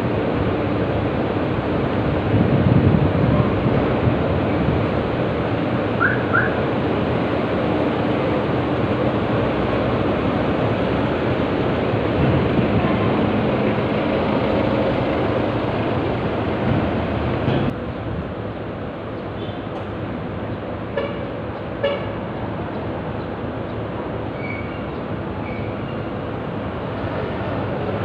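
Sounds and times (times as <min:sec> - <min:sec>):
vehicles driving past: 0:00.0 - 0:28.0.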